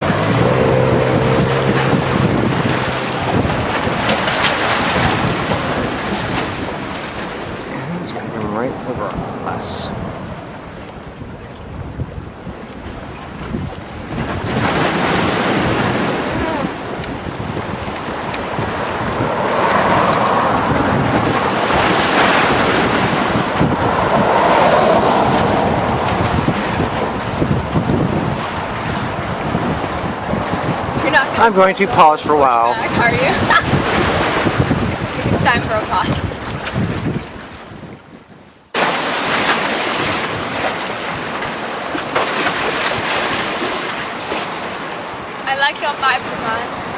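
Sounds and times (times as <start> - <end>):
surf rushing: 0.0 - 37.9, 38.8 - 46.9
wind buffeting microphone: 0.0 - 46.9.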